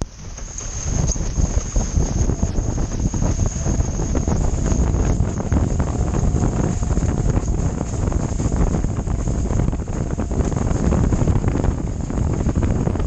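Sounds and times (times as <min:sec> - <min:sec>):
wind buffeting microphone: 0:00.0 - 0:13.0
faint high whine: 0:01.0 - 0:12.0.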